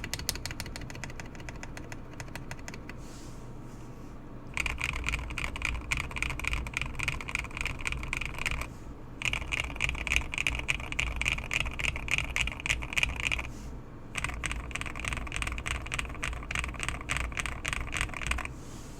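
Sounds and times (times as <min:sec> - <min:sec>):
fast typing on mechanical keyboard: 0:00.0 - 0:03.0, 0:04.5 - 0:13.5, 0:14.1 - 0:18.5.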